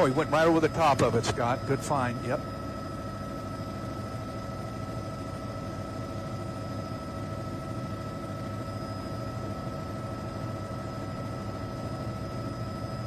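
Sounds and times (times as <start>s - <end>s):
helicopter engine and rotors drone: 0.0s - 13.0s.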